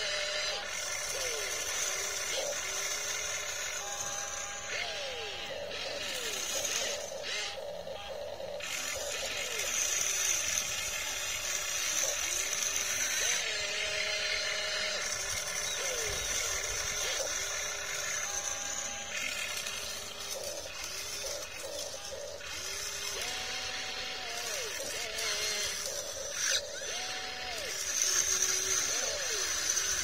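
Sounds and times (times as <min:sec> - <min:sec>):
toy excavator motors whining: 0:00.0 - 0:30.0.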